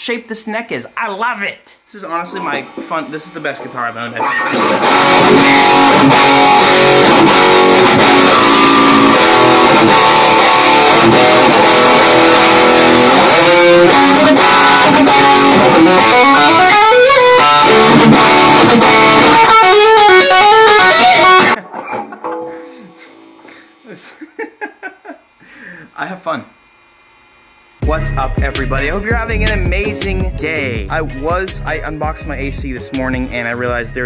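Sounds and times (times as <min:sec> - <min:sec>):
electric guitar playing: 0:02.2 - 0:24.1, 0:27.8 - 0:34.0.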